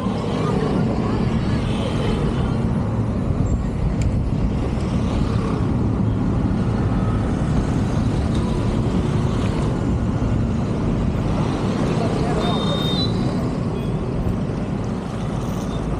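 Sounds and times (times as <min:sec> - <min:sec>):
car driving on road: 0:00.0 - 0:15.9.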